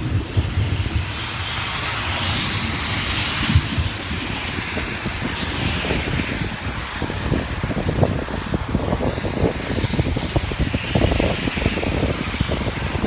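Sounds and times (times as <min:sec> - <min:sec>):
rain: 0:00.0 - 0:13.0
wind gusts buffeting microphone: 0:00.0 - 0:13.0.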